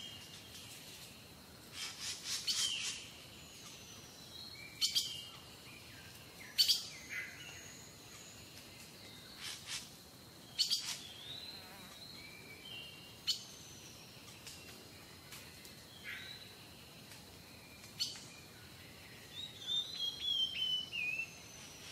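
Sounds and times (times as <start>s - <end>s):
faint steady hiss: 0.0s - 21.9s
small birds chirping: 0.0s - 21.9s.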